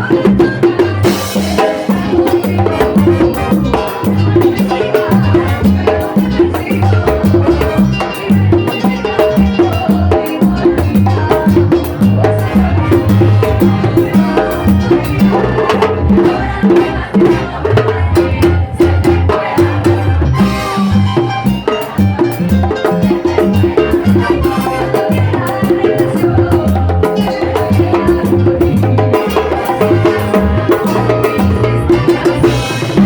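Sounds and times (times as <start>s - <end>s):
latin dance band music: 0.0s - 33.0s.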